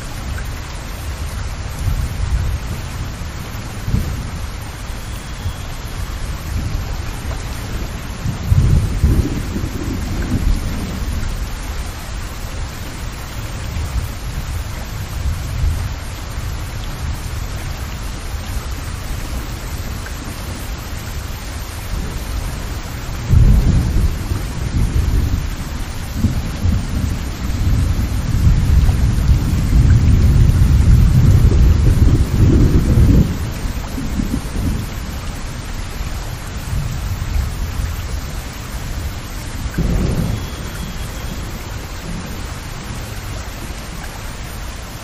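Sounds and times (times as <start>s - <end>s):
steady rain: 0.0s - 45.0s
thunder rumbling: 0.0s - 45.0s.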